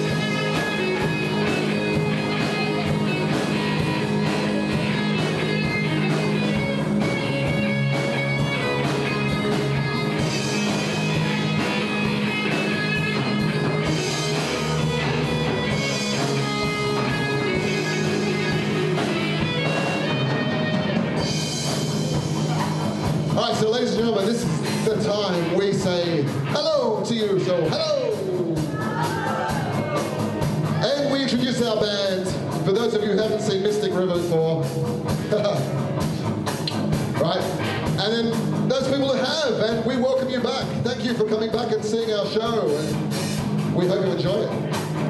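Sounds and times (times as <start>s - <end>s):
bass guitar: 0.0s - 45.0s
drum kit beat: 0.0s - 45.0s
electric guitars: 0.0s - 45.0s
rock band playing: 0.0s - 45.0s.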